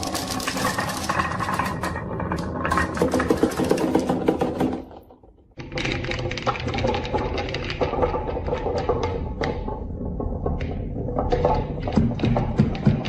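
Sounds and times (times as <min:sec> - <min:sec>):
marbles rolling down a track: 0:00.0 - 0:05.0, 0:05.6 - 0:13.0.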